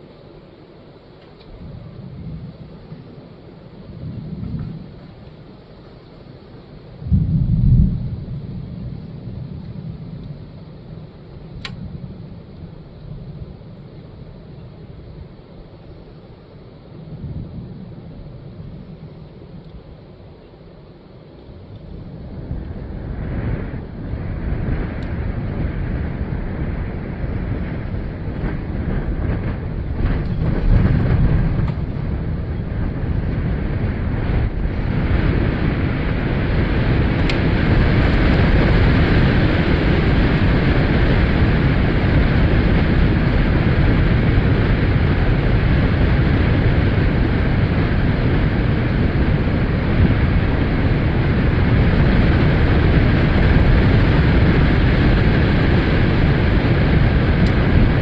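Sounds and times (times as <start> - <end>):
storm wind on microphone: 0.0 - 58.0.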